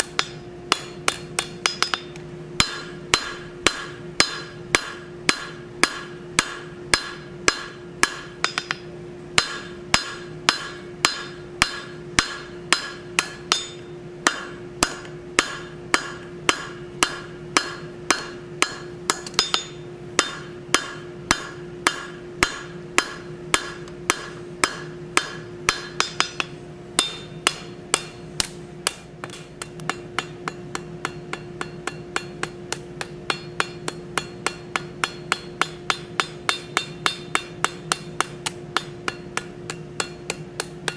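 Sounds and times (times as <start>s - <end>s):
hammer striking hot steel on anvil: 0.0s - 40.9s
ringing hum: 0.0s - 40.9s.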